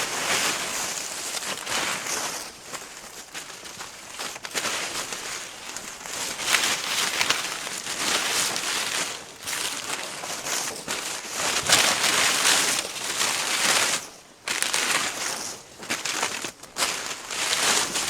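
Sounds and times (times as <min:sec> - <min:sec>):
footsteps crunching on loose surface: 0:00.0 - 0:18.0.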